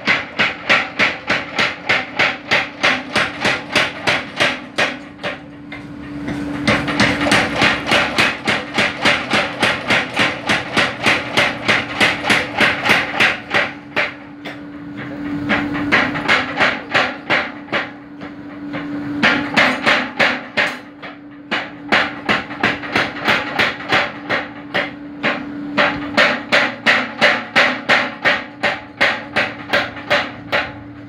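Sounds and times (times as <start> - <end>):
power hammer pounding steel: 0.0 - 31.0.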